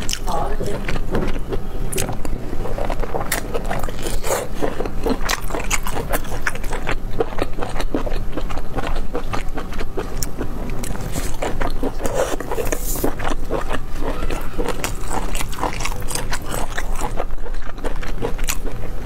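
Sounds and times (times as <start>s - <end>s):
chewing and biting: 0.0s - 19.0s
steady low hum: 0.0s - 19.0s.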